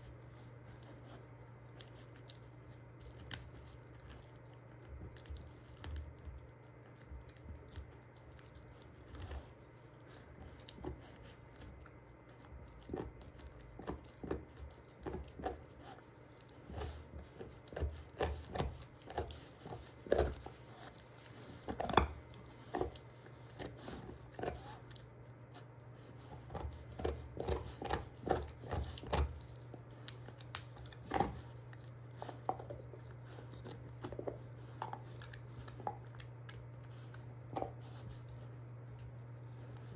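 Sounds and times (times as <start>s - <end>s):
dog gnawing a bone: 0.0s - 39.9s
steady low hum: 0.0s - 39.9s.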